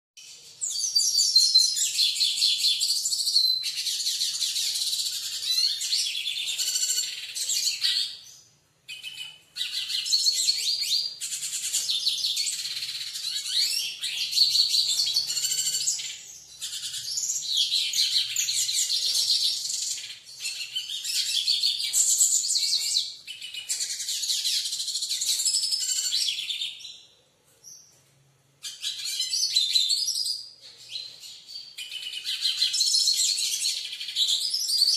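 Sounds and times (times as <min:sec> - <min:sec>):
bird twittering song: 0:00.2 - 0:34.9.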